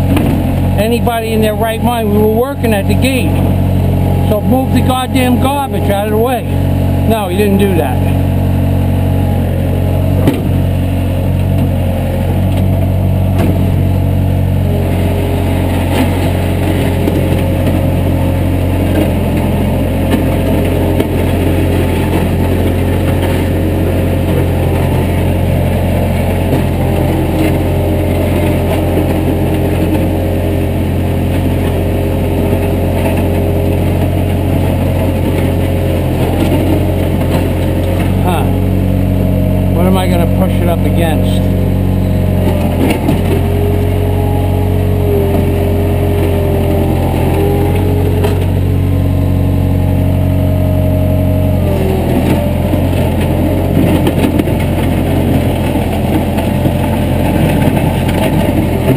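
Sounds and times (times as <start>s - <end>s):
heavy equipment engine running: 0.0s - 58.9s.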